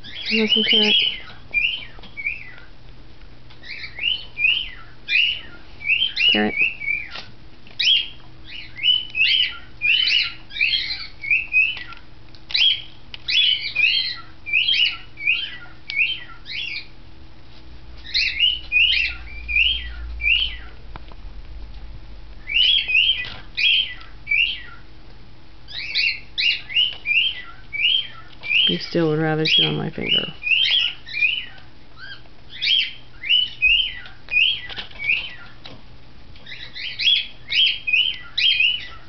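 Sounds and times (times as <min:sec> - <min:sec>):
parrots chirping: 0:00.0 - 0:02.7, 0:03.6 - 0:07.2, 0:07.8 - 0:17.0, 0:18.0 - 0:21.0, 0:22.4 - 0:24.9, 0:25.6 - 0:35.8, 0:36.4 - 0:39.0.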